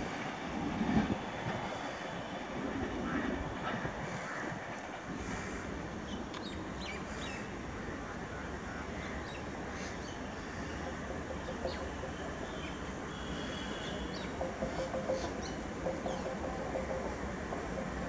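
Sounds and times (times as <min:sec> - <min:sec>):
train coaches rolling on track: 0:00.0 - 0:18.0.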